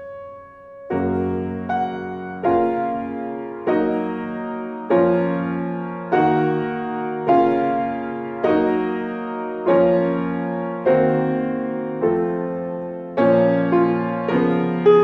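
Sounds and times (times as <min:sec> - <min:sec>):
piano chords ringing: 0:00.0 - 0:15.0.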